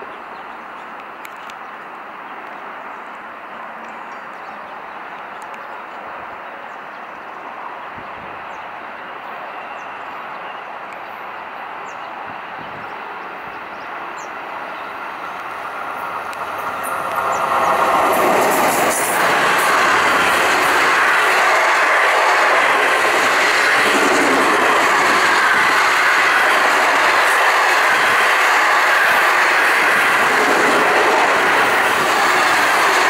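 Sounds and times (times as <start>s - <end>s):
approaching train running noise: 0.0s - 33.0s.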